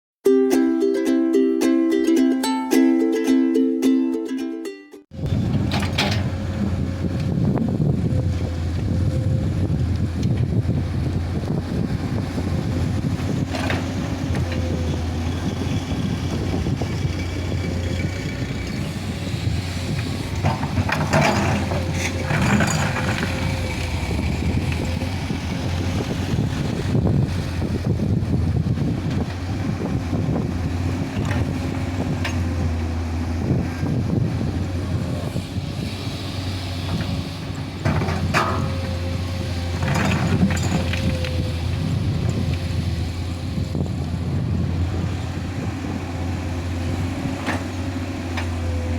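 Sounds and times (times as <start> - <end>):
excavator diesel engine droning: 5.1 - 48.9.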